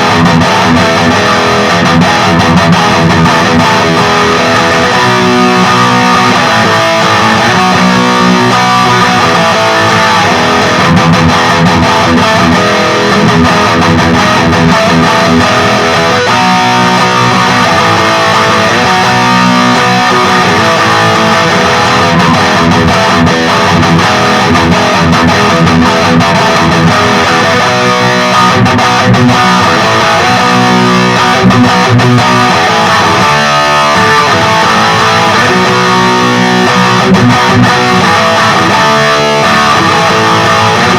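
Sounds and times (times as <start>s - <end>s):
high-gain electric guitar: 0.0s - 40.9s.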